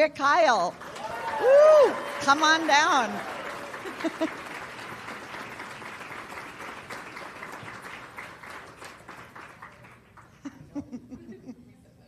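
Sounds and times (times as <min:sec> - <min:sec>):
audience applauding: 0:00.7 - 0:10.4.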